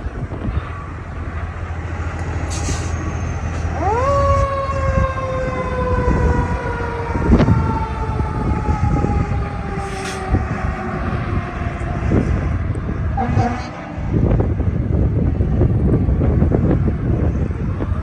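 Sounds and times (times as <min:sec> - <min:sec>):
diesel engine rumble: 0:00.0 - 0:18.0
fire engine siren: 0:00.0 - 0:18.0.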